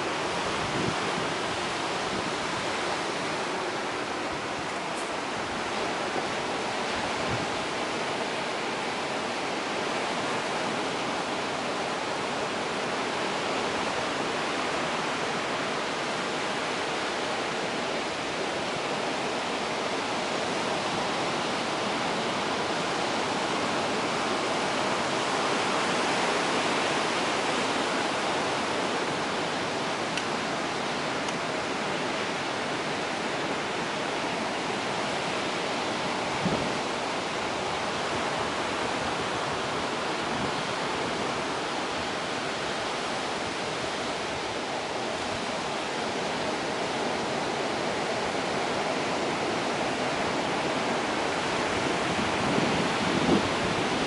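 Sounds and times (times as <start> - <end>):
ocean surf breaking on shore: 0.0 - 54.0.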